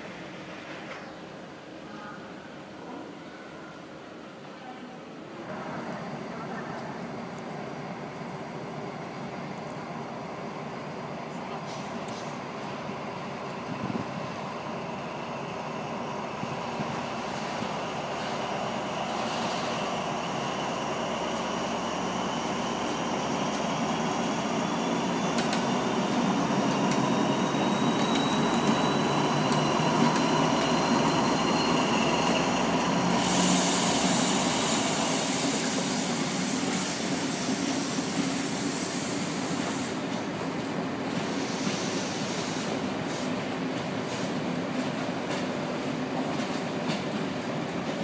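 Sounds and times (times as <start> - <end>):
diesel locomotive engine rumble: 5.4 - 48.0
train wheels hissing on rails: 7.4 - 48.0.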